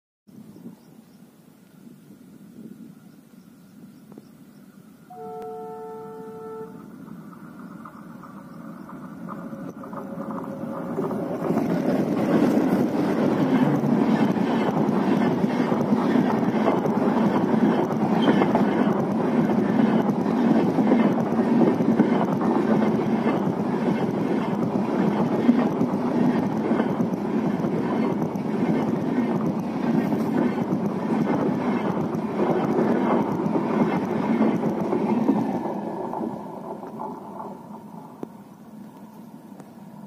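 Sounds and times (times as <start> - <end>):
diesel locomotives approaching: 0.6 - 40.0
train coaches rumbling past: 2.4 - 40.0
wheels clattering on rails: 6.9 - 39.6.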